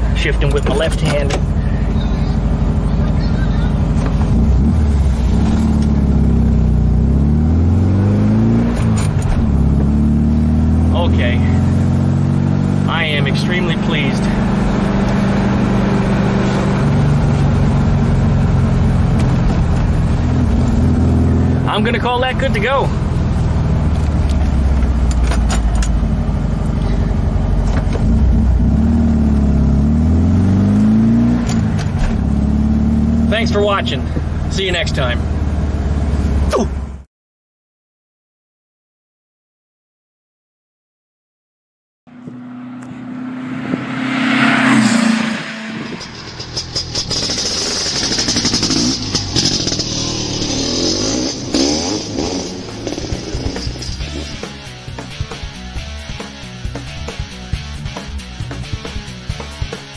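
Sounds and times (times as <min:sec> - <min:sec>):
car engine running: 0:00.0 - 0:37.0, 0:42.1 - 0:59.7.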